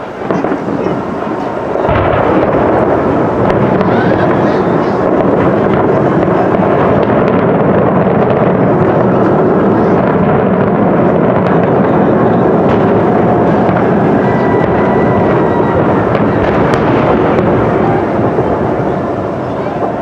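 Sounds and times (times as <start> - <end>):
fireworks bursts rumbling: 0.0 - 20.0
fireworks crackling: 0.0 - 20.0.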